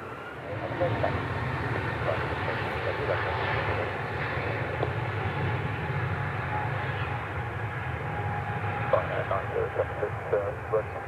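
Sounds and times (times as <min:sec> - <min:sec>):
jet airliner taking off: 0:00.0 - 0:11.0.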